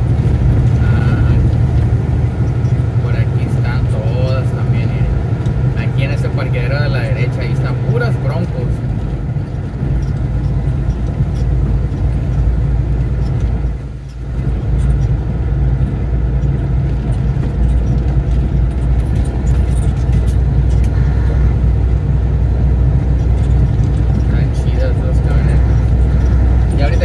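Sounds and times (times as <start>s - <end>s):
road noise: 0.0s - 27.0s
truck diesel engine running: 0.0s - 27.0s.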